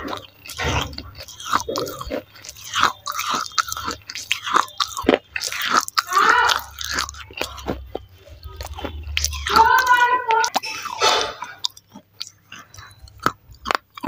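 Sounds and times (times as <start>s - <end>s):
crunching clay between teeth: 0.0s - 14.0s
wet mouth sounds: 0.0s - 14.0s.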